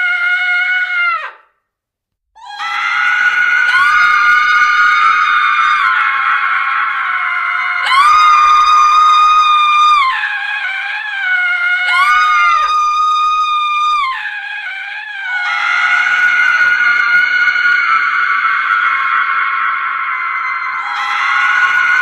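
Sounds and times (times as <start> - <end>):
women screaming: 2.4 - 22.0.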